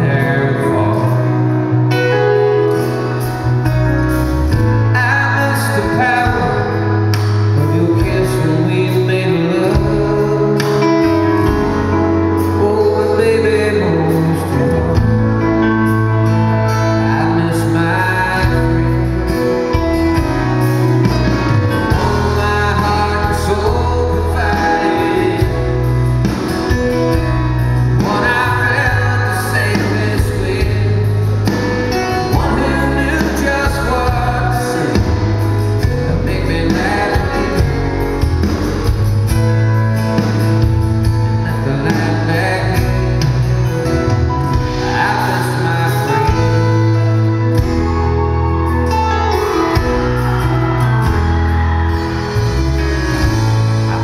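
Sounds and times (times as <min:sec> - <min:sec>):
man singing: 0:00.0 - 0:02.6, 0:04.5 - 0:20.6, 0:21.4 - 0:39.4, 0:41.4 - 0:54.0
country band playing ballad: 0:00.0 - 0:54.0.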